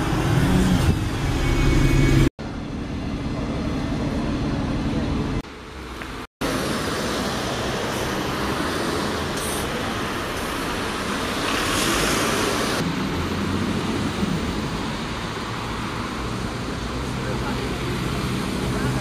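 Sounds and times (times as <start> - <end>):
bus driving past: 0.0 - 19.0
cars running: 0.0 - 19.0.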